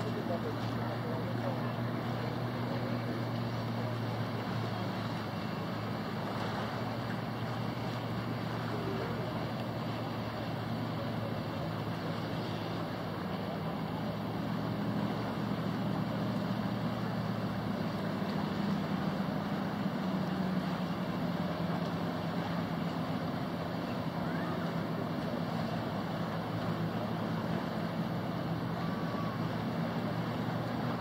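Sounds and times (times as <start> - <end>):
boat engines droning: 0.0 - 31.0
lapping water: 0.0 - 31.0
wind: 0.0 - 31.0.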